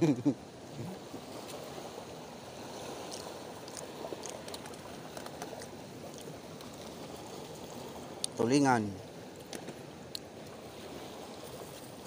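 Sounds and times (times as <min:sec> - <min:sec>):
water rushing: 0:00.0 - 0:12.0
wind: 0:00.0 - 0:12.0.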